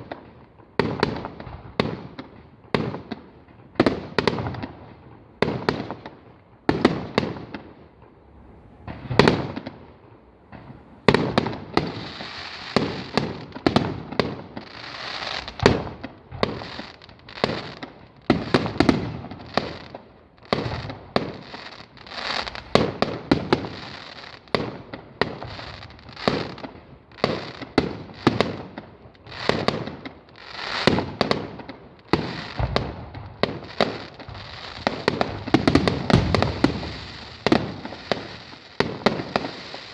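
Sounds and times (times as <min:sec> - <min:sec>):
fireworks booming: 0:00.0 - 0:39.9
fireworks crackling: 0:00.0 - 0:39.9.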